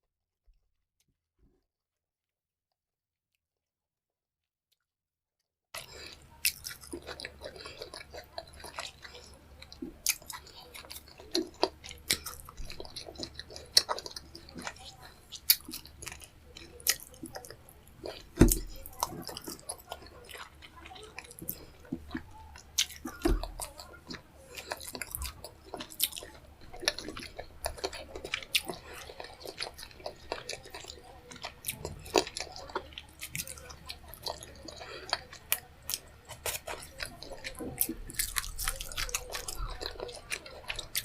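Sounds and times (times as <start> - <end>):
chewing and biting food: 5.8 - 41.0.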